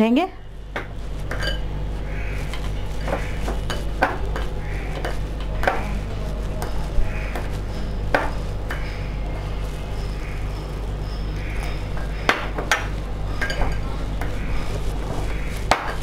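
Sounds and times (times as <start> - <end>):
steady low hum: 0.0 - 16.0
dough squishing and rubbing: 0.5 - 16.0.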